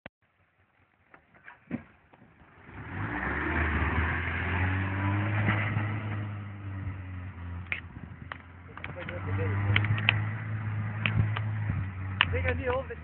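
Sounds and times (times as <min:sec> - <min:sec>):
car engine under throttle: 0:02.3 - 0:13.0.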